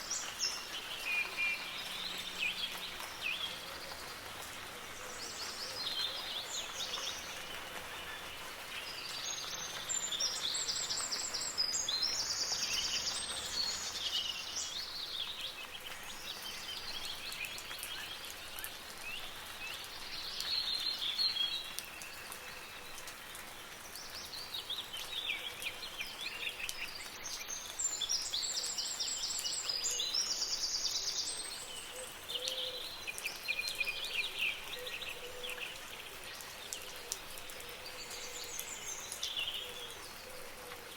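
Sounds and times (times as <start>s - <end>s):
soft rain hissing: 0.0s - 40.9s
songbirds singing: 0.0s - 40.9s.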